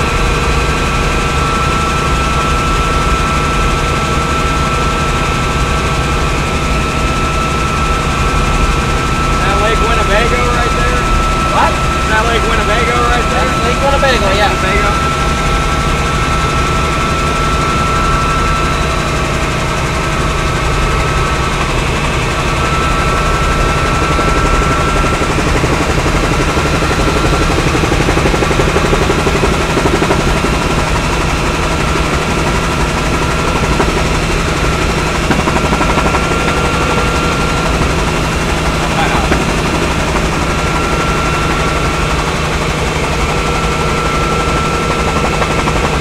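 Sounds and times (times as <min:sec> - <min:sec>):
helicopter engine drone: 0:00.0 - 0:46.0
helicopter rotor beat: 0:00.0 - 0:46.0
thin steady whine: 0:00.0 - 0:46.0.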